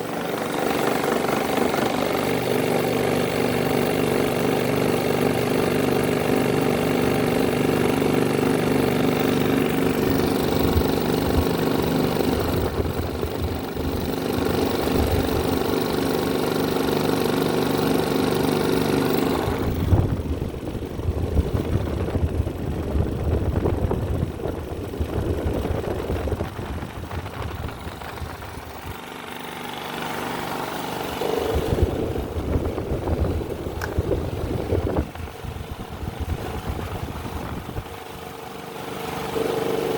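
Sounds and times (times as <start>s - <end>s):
fan motors humming: 0.0s - 39.9s.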